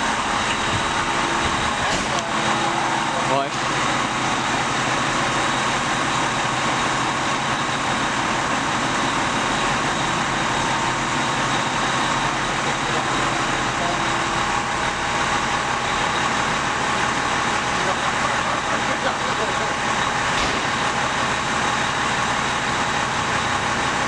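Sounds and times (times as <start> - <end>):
fire engine running: 0.0 - 24.0.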